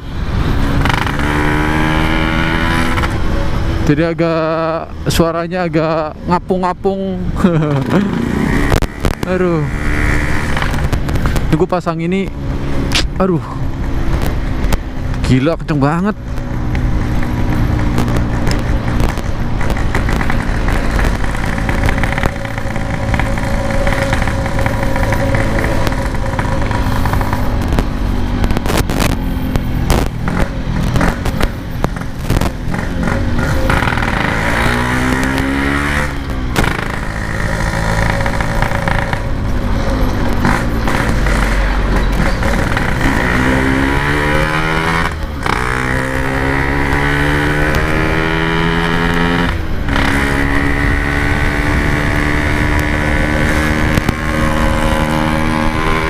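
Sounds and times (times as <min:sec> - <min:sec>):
two-stroke motorcycle engine revving: 0:00.0 - 0:56.0.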